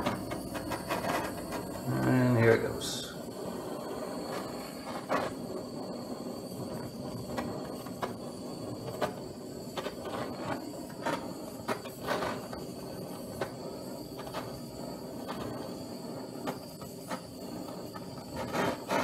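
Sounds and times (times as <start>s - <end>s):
torch flame hissing: 0.0s - 19.0s.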